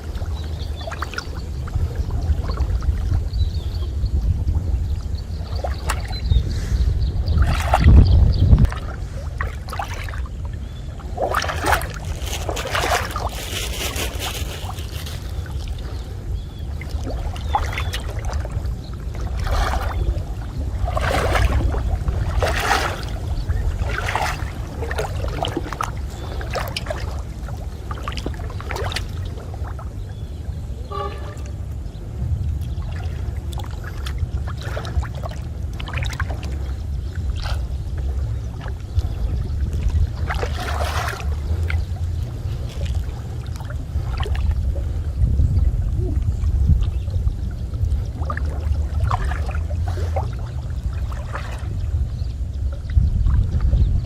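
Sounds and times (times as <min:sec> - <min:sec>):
low rumble: 0:00.0 - 0:54.0
water splashing and sloshing: 0:00.0 - 0:54.0.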